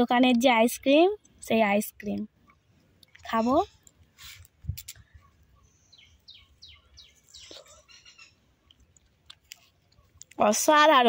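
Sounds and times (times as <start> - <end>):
faint bird chirping: 1.2 - 10.6.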